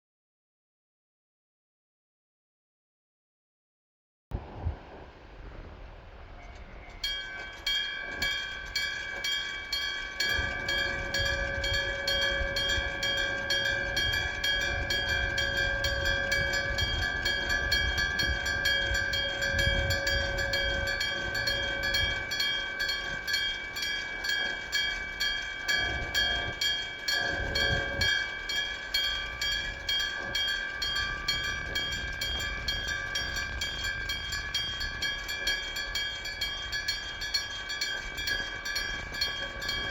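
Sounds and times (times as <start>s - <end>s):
train rumbling: 4.4s - 39.9s
level-crossing warning bell: 6.4s - 39.9s.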